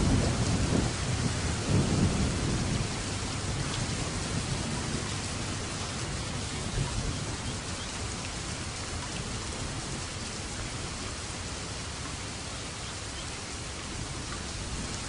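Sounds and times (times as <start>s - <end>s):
low thunder rumble: 0.0s - 11.1s, 13.9s - 15.0s
heavy rain hissing: 0.0s - 15.0s.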